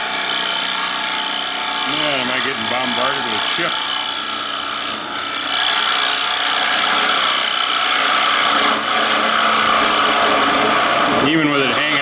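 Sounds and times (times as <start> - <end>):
tool scraping wood on lathe: 0.0 - 12.0.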